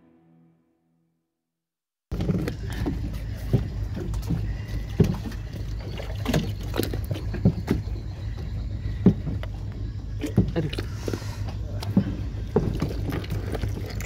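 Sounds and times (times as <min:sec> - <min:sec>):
boat engine droning: 0:02.1 - 0:14.0.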